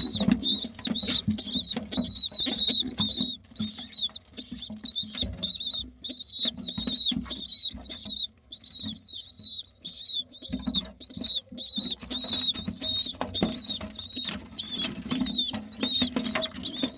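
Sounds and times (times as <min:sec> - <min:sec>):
pigeon squabs squeaking: 0:00.0 - 0:16.9.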